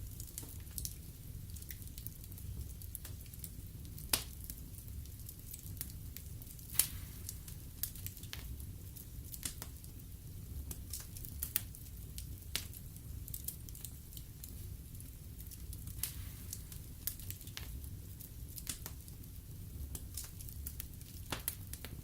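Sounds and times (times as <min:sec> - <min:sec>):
low rumble of flames: 0:00.0 - 0:22.0
logs crackling and popping: 0:00.1 - 0:22.0.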